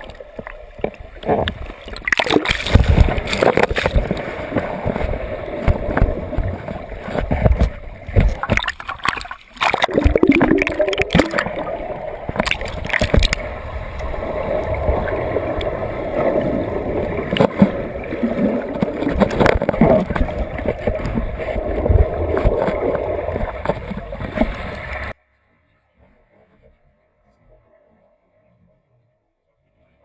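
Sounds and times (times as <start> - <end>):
water churning and gurgling: 0.0 - 25.2
water splashes: 0.0 - 25.2.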